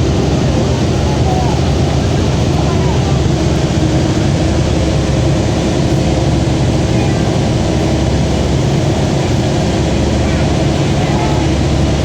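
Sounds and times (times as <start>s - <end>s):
hovercraft engines droning: 0.0s - 12.0s.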